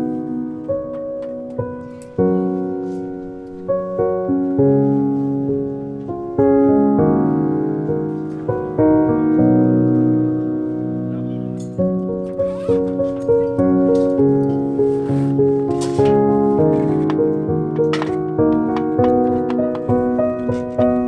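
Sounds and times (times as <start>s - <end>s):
piano chords ringing: 0.0s - 21.0s.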